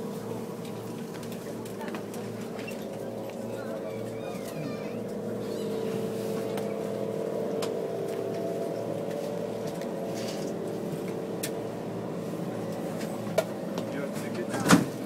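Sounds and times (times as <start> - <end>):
train carriage drone and hum: 0.0 - 15.0.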